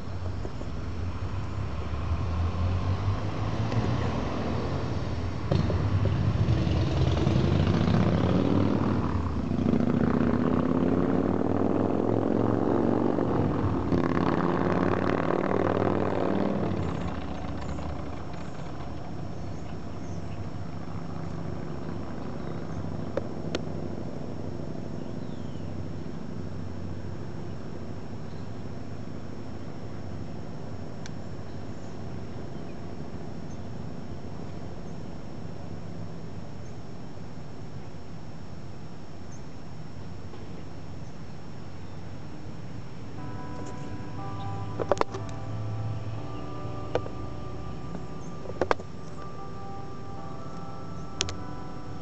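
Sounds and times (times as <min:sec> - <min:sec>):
motor vehicle passing by: 0:00.0 - 0:36.8, 0:40.1 - 0:52.0.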